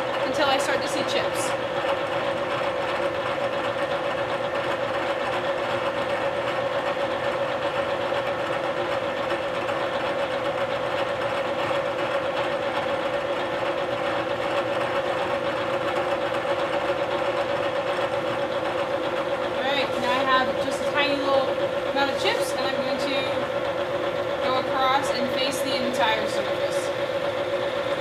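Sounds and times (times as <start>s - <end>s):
milling machine hum and whine: 0.0s - 28.0s.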